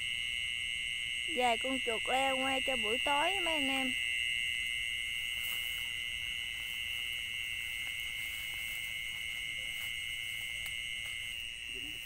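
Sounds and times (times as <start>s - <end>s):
insect chorus shrill drone: 0.0s - 12.0s.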